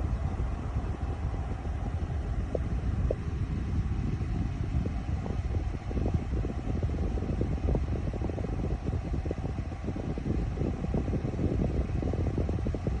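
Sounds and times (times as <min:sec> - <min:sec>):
air conditioner fan blowing: 0:00.0 - 0:13.0.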